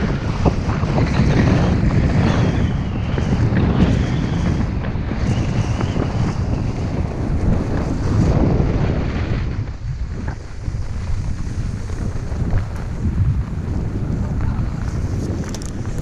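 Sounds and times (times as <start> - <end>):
skis sliding on snow: 0.0 - 16.0
wind buffeting microphone: 0.0 - 16.0.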